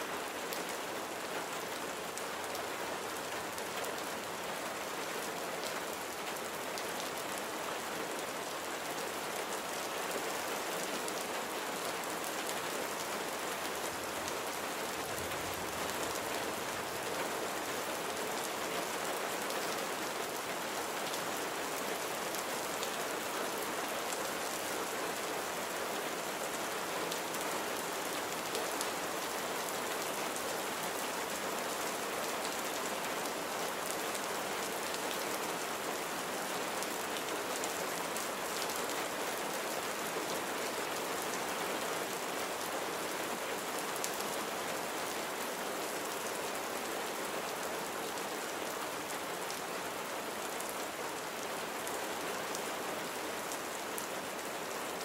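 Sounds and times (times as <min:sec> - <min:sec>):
rain pattering on surfaces: 0:00.1 - 0:55.0.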